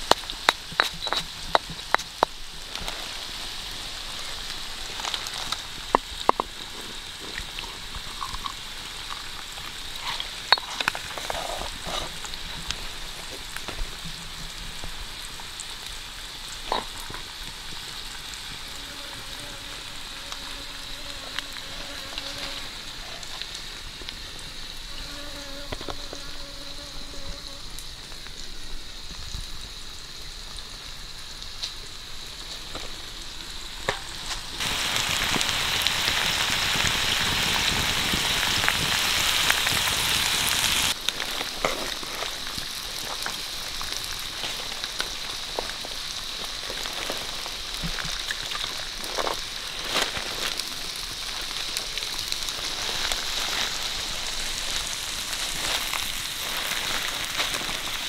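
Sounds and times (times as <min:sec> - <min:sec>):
forest insects droning: 0:00.0 - 0:58.0.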